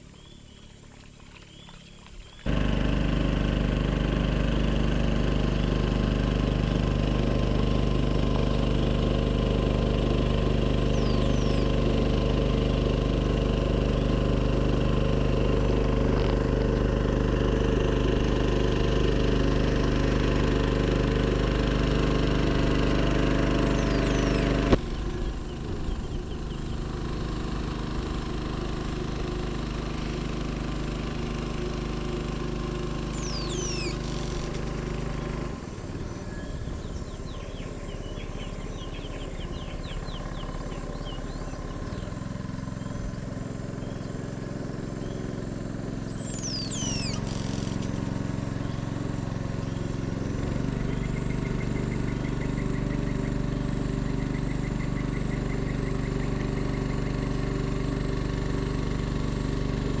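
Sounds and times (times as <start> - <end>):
small boat motor running: 0.0 - 60.0.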